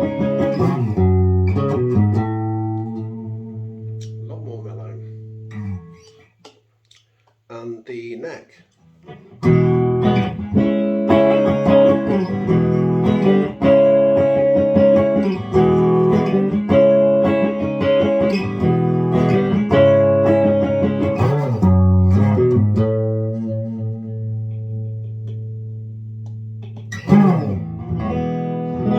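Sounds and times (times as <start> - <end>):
electric guitar chords ringing: 0.0 - 6.1, 9.1 - 28.9.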